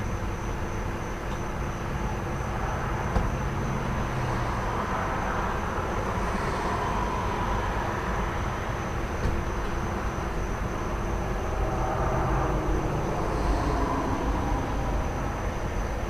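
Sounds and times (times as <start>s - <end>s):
crickets trilling: 1.6s - 16.0s
passing traffic: 1.8s - 16.0s.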